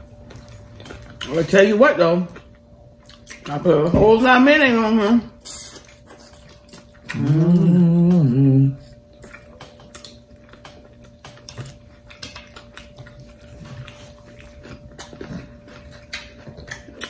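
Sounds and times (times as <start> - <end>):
people chewing with lip smacks: 0.0 - 17.0.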